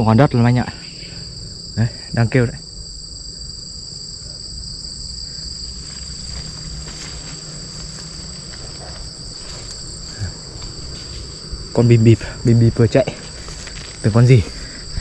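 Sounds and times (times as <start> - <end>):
insects droning shrilly: 0.0 - 15.0.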